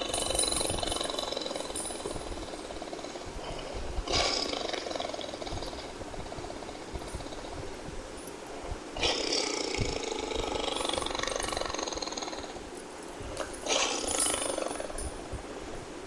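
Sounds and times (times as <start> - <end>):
tiger roaring: 0.0 - 7.8, 9.0 - 12.7, 13.6 - 15.1.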